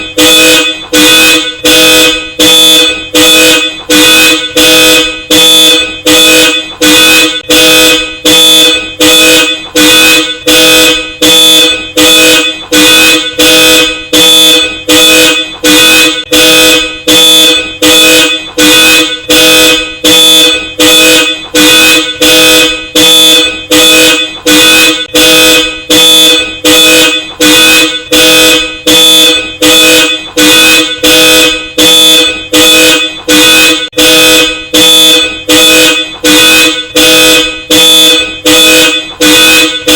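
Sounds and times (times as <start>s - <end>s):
car alarm honking: 0.0s - 39.9s.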